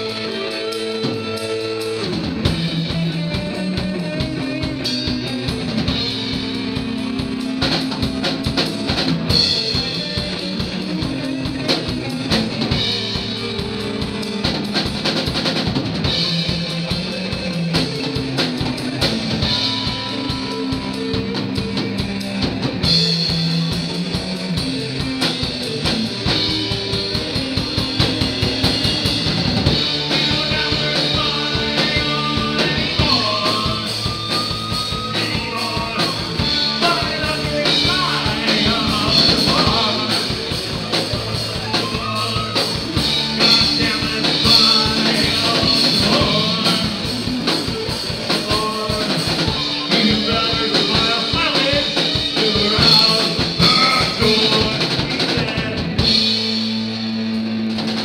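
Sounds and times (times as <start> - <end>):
drum kit: 0.0 - 58.0
electric bass: 0.0 - 58.0
electric guitars: 0.0 - 58.0.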